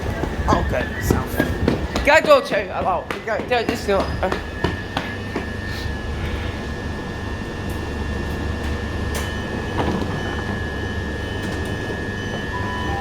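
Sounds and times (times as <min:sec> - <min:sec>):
electric train rumble and hiss: 0:00.0 - 0:13.0.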